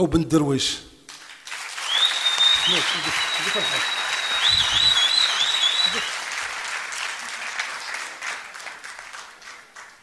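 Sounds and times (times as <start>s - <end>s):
audience applauding and cheering: 1.1s - 10.0s.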